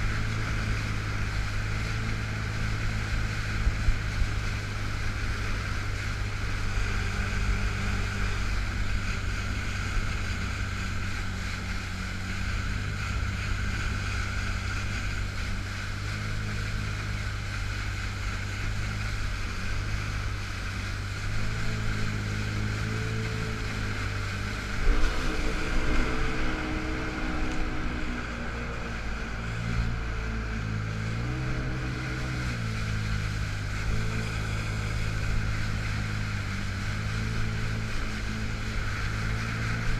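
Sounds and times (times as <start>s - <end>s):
personal watercraft engine hum: 0.0s - 39.9s
rushing water: 0.0s - 39.9s
wind on microphone: 0.0s - 39.9s.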